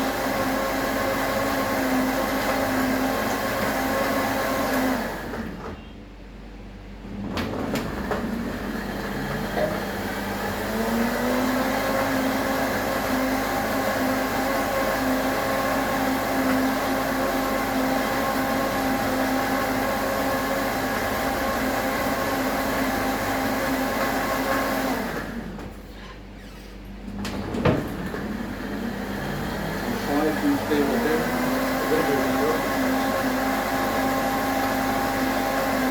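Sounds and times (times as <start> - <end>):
blender motor blending ice: 0.0 - 5.6, 7.1 - 25.6, 27.9 - 35.9.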